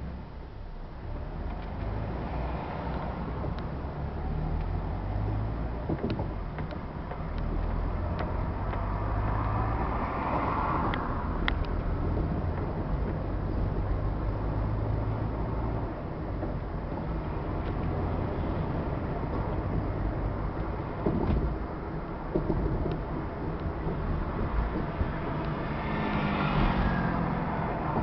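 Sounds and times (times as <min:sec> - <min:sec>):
car engine hum: 0:00.0 - 0:28.0
tyre road noise: 0:00.0 - 0:28.0.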